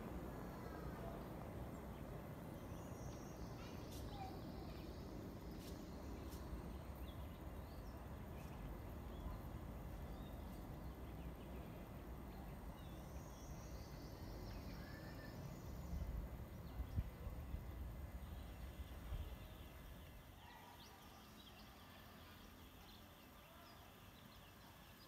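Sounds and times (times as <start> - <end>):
low outdoor rumble: 0.0 - 20.3.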